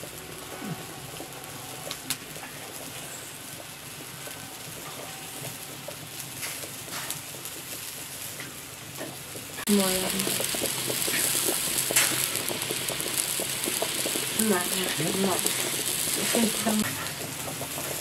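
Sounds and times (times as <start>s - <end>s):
fire crackling: 0.0s - 18.0s
water boiling and bubbling: 0.0s - 18.0s.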